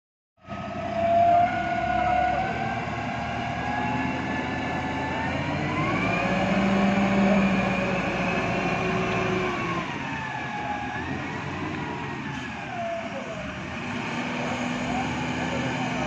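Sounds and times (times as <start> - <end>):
diesel engine revving: 0.4 - 16.0.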